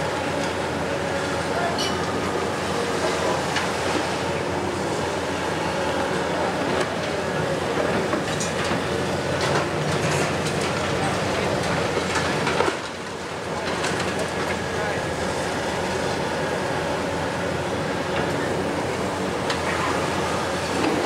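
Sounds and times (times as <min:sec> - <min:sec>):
excavator running: 0:00.0 - 0:21.0.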